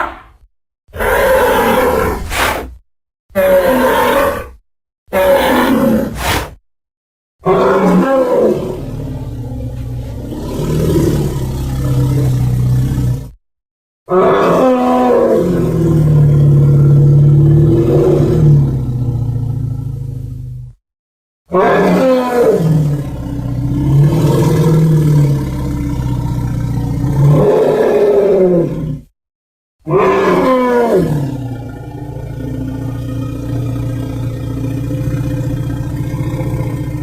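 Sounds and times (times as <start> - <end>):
deep dinosaur roars: 0.0 - 2.6, 3.4 - 6.5, 7.4 - 13.4, 14.1 - 20.8, 21.5 - 29.1, 29.8 - 37.0.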